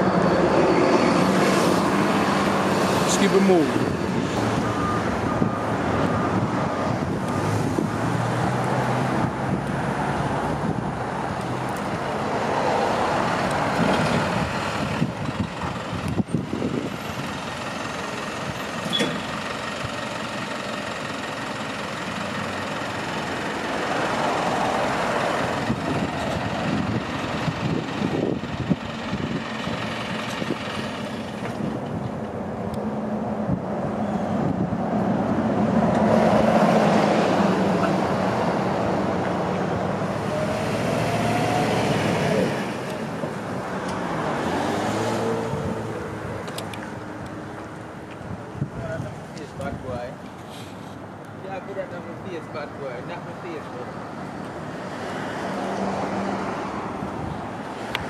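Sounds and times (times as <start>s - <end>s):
heavy vehicle engine hum: 0.0s - 58.0s
vehicles passing: 0.0s - 58.0s.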